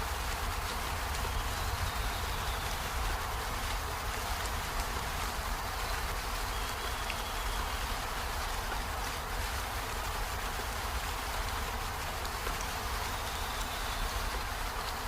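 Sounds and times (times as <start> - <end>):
rain on flowers and leaves: 0.0 - 15.0.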